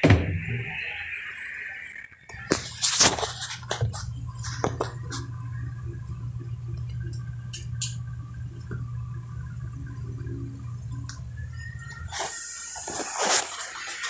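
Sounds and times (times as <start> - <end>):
washing machine humming: 0.0 - 0.9, 2.3 - 12.7.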